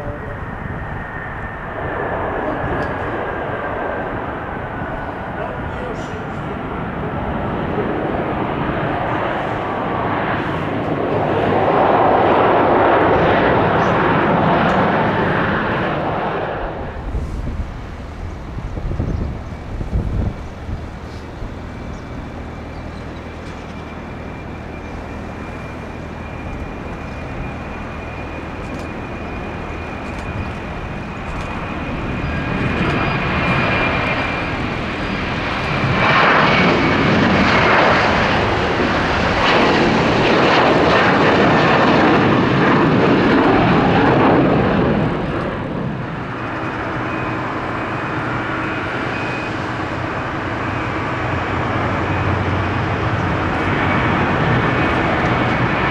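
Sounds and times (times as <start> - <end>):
airliner engines passing: 0.0 - 55.9.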